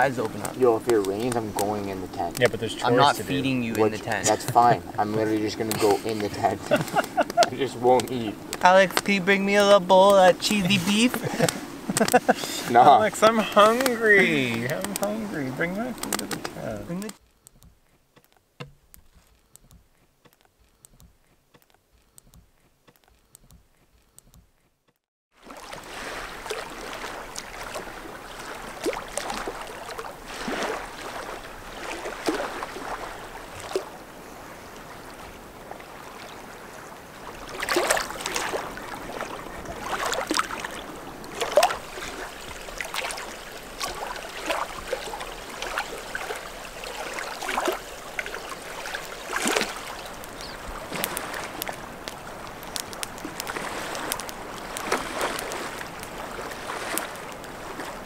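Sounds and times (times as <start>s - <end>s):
steady water noise: 0.0s - 21.1s, 25.3s - 58.0s.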